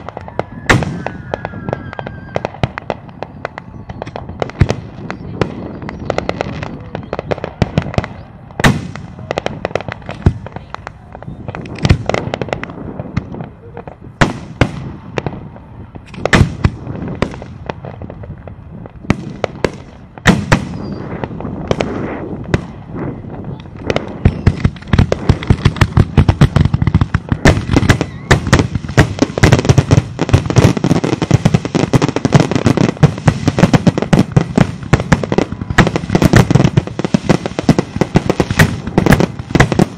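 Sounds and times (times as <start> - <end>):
firework bangs and crackles: 0.0 - 39.9
firework shells booming: 0.0 - 39.9.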